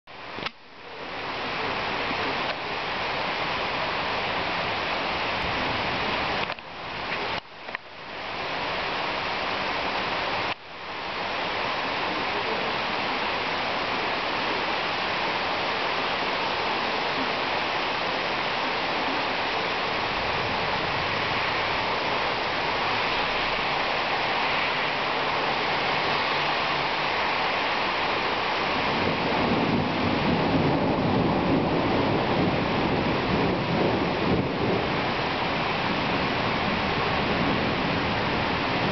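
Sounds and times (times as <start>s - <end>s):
heavy rain pouring: 0.1s - 38.9s.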